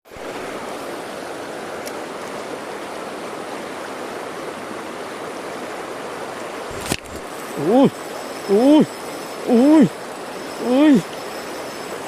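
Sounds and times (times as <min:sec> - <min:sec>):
stream rapids rushing: 0:00.1 - 0:12.0.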